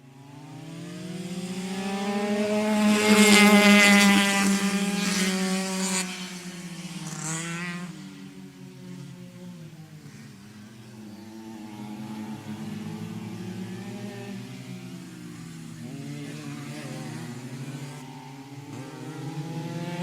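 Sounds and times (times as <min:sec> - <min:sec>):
go-kart engine passing by: 0:00.0 - 0:20.0.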